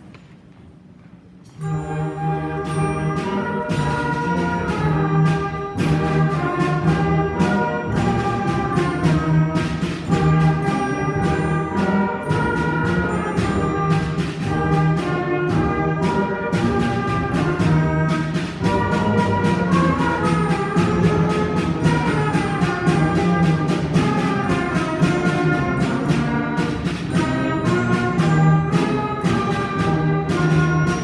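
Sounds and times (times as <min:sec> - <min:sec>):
brass: 0:01.6 - 0:31.0
concert band playing: 0:01.6 - 0:31.0.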